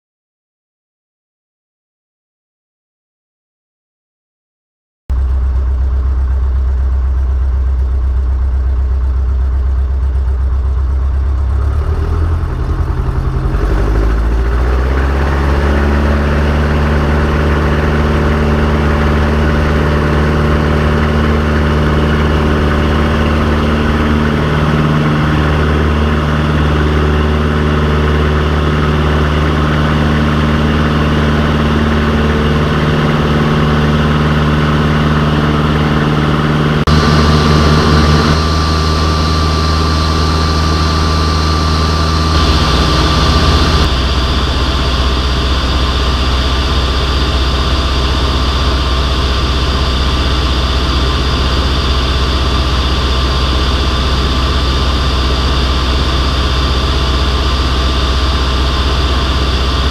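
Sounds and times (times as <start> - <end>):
propeller engine revving: 5.1 - 59.9.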